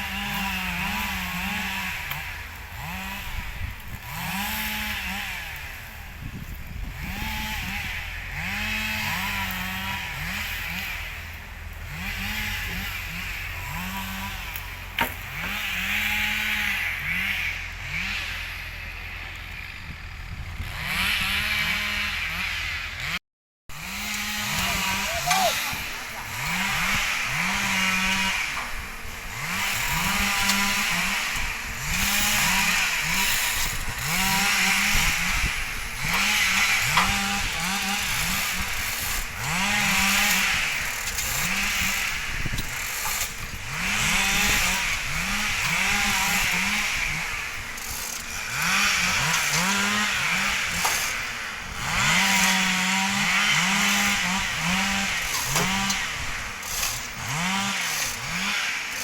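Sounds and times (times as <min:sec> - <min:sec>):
chainsaw revving and cutting logs: 0:00.0 - 0:59.0.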